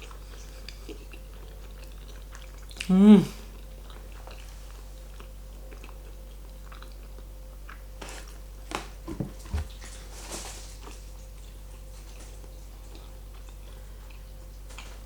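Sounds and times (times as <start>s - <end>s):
person chewing pasta: 0.0s - 9.8s, 10.8s - 15.0s
steady low hum: 0.0s - 15.0s.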